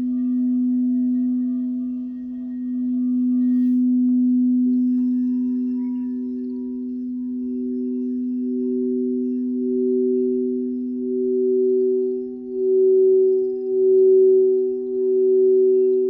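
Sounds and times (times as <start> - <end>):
higher singing bowl tone: 0.0 - 16.0
singing bowl low tone: 0.0 - 16.0.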